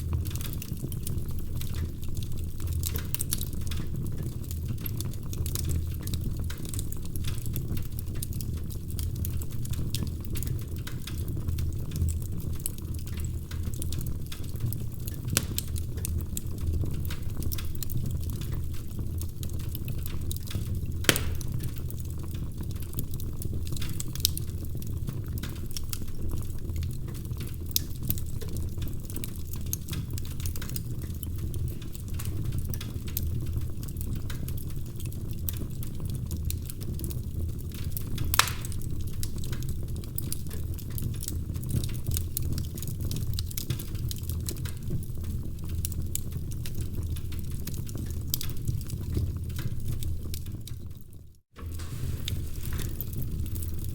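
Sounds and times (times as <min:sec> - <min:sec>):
fire popping and snapping: 0:00.0 - 0:53.9
wood fire crackling: 0:00.0 - 0:53.9.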